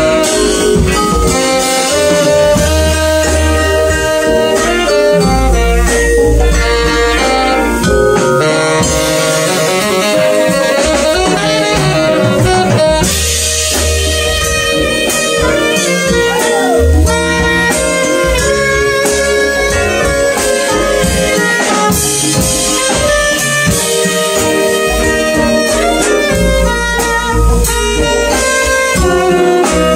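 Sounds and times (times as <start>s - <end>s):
congas: 0.0s - 29.9s
drum kit: 0.0s - 29.9s
saxophone: 0.0s - 29.9s
vibraphone: 0.0s - 29.9s.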